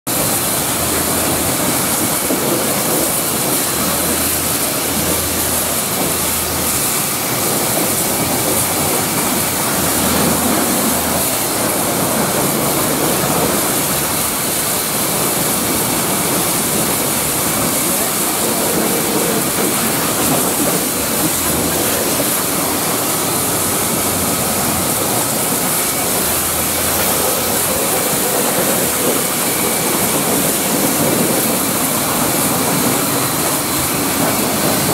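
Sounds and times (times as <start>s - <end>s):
pressure washer spraying tyres: 0.1s - 34.9s.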